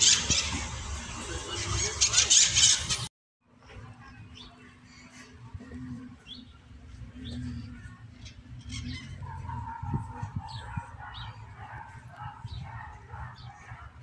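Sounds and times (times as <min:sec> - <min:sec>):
birds chirping: 0:00.0 - 0:03.1, 0:03.8 - 0:14.0.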